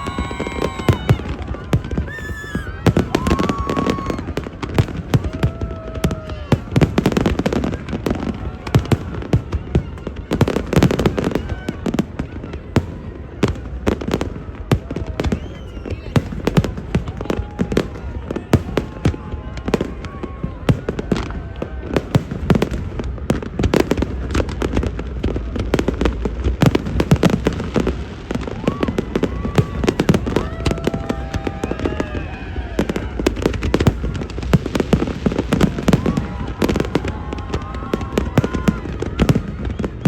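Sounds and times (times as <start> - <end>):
crowd voices and shouts: 0.0 - 40.0
fireworks bangs and crackles: 0.0 - 40.0.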